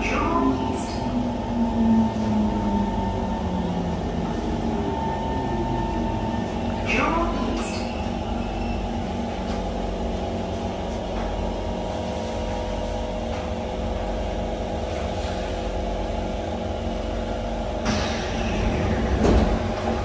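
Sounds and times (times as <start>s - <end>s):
train interior hum and rumble: 0.0s - 20.0s.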